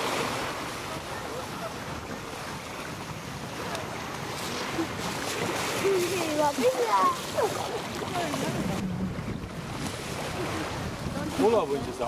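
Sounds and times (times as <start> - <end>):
surf washing on shore: 0.0 - 12.0
wind on microphone: 0.0 - 12.0.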